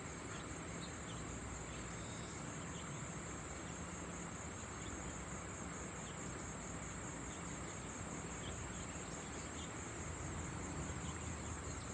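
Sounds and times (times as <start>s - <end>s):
crickets trilling: 0.0s - 11.9s.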